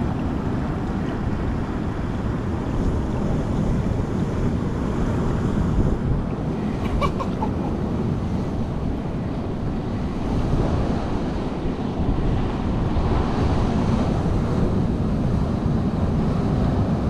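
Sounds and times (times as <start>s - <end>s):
surf on rocky shore: 0.0s - 17.0s
wind buffeting microphone: 0.0s - 17.0s.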